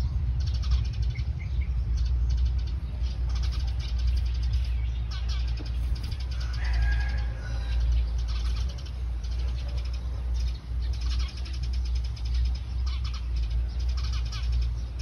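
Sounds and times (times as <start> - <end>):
birds chirping: 0.0 - 15.0
low rumble: 0.0 - 15.0.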